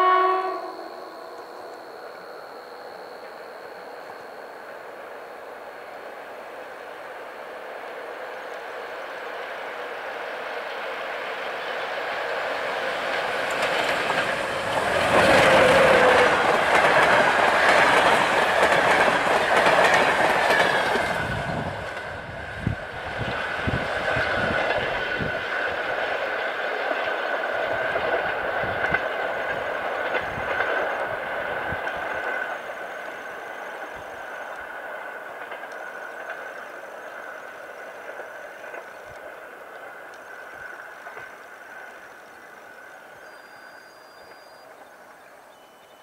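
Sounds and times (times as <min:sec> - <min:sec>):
train passing at speed: 0:00.0 - 0:46.0.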